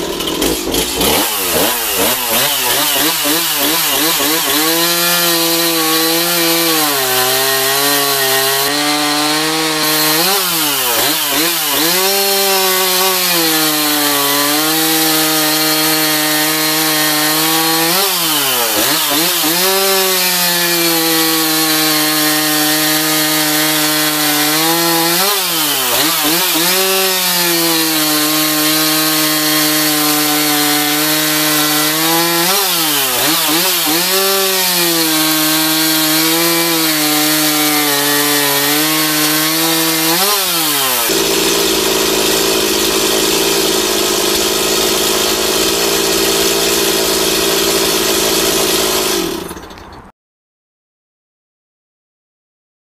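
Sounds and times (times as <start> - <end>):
chainsaw cutting log: 0.0 - 50.1.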